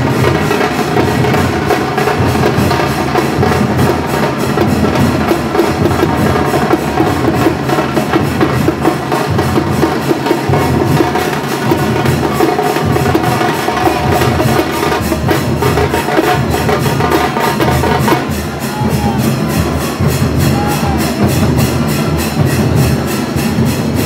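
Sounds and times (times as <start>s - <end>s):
drum-led procession music: 0.0s - 24.0s.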